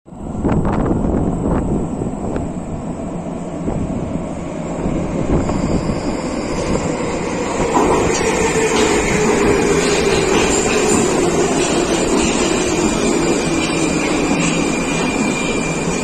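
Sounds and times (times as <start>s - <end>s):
metro train rumble: 0.1s - 16.0s
train whine of thin tones: 0.1s - 16.0s.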